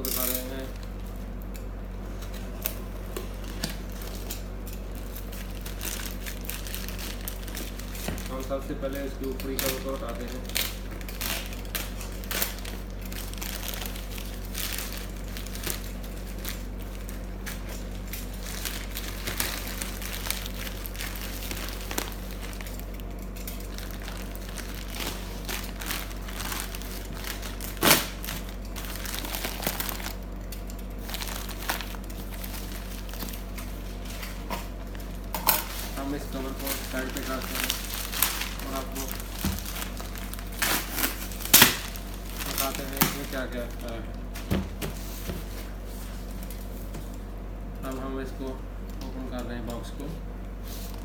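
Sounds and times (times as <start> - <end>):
low electrical hum: 0.0 - 51.0
packaging crinkling: 2.1 - 46.9.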